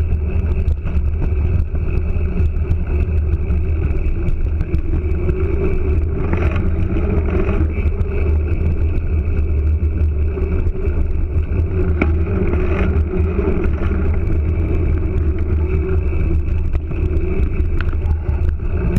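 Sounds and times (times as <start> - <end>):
bike tyre rolling on gravel: 0.0 - 18.9
wind buffeting microphone: 0.0 - 18.9.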